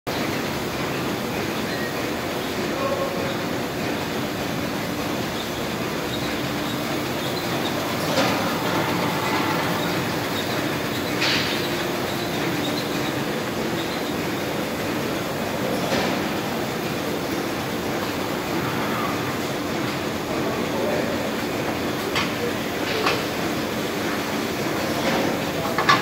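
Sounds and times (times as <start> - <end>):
book-sewing machine clatter and hum: 0.1 - 26.0.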